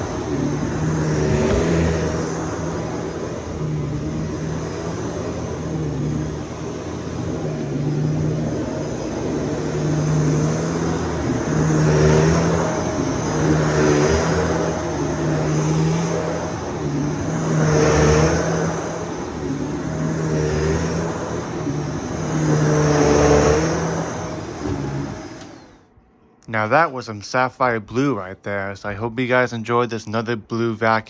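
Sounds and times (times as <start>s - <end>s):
upright vacuum cleaner running: 0.0s - 25.9s.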